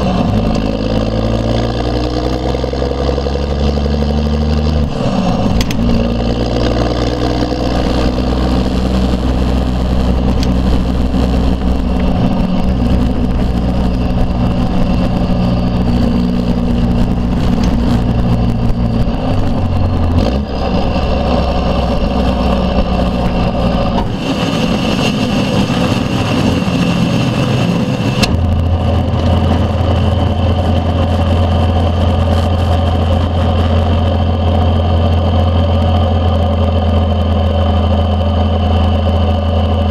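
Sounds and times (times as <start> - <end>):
diesel engine exhaust: 0.0 - 39.9.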